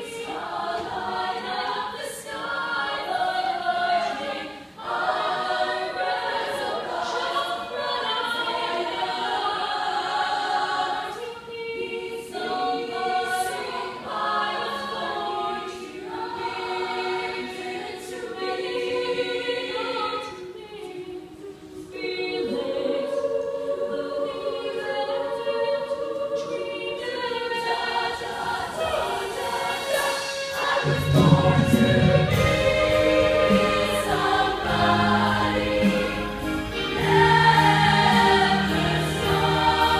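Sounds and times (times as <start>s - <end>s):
female vocal ensemble singing: 0.0s - 39.9s.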